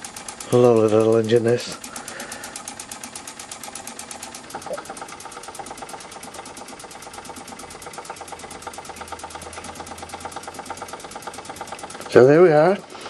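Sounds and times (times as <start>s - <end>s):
toy steam engine puffing: 0.0s - 13.0s.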